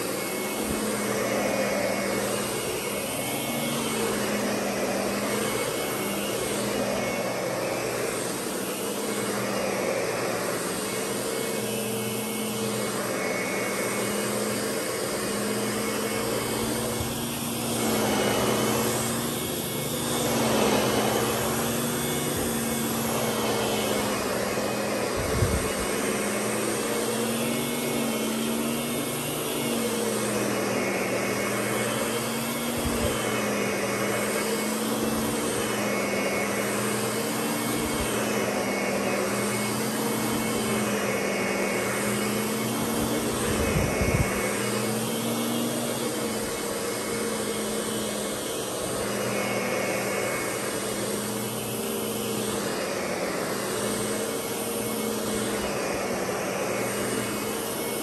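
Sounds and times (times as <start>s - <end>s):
vacuum cleaner droning: 0.0s - 58.0s.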